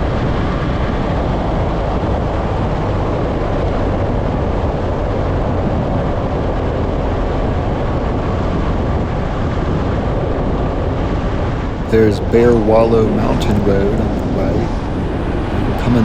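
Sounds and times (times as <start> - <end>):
vehicle road and engine noise: 0.0 - 16.0.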